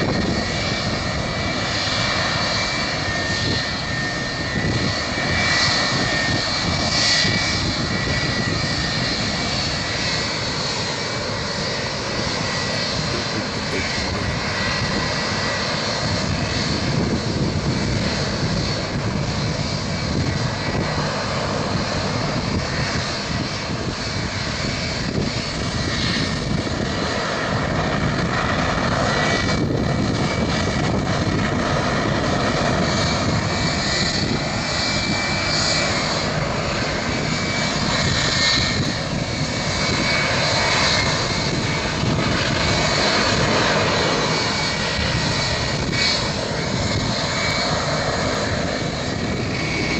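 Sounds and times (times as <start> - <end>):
jet engines rushing: 0.0 - 49.9.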